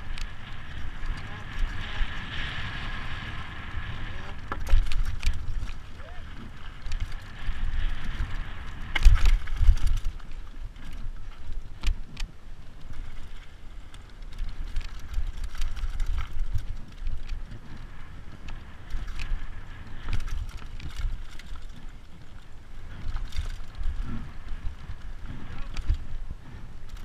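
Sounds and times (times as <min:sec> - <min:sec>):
bike clattering over rough ground: 0:00.0 - 0:27.0
tyres on dirt: 0:00.0 - 0:27.0
wind rumbling on microphone: 0:00.0 - 0:27.0.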